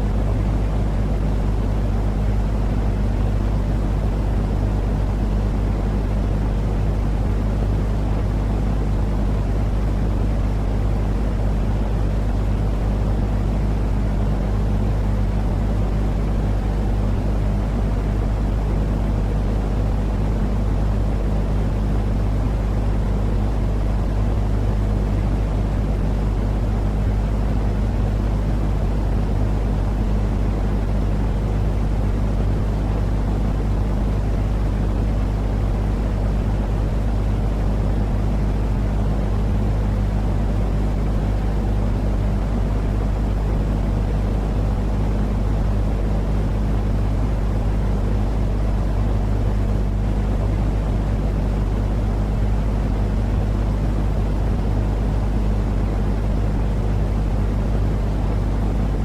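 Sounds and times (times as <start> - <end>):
deep white noise: 0.0 - 59.0.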